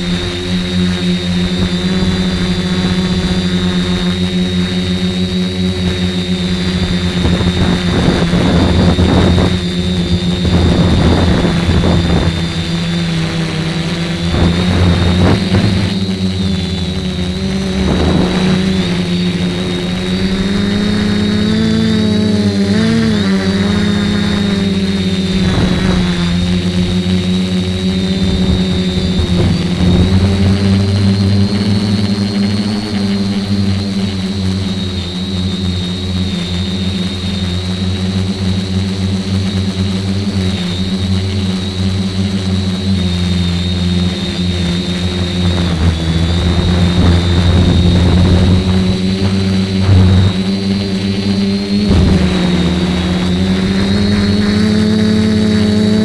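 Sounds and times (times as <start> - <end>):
wind noise: 0.0 - 35.0, 41.3 - 56.0
drone motors buzzing: 0.0 - 56.0.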